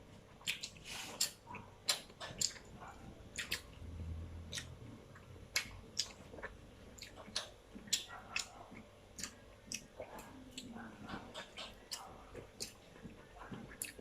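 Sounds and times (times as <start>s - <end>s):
wet chewing and lip-smacks: 0.3s - 3.9s, 4.5s - 14.0s.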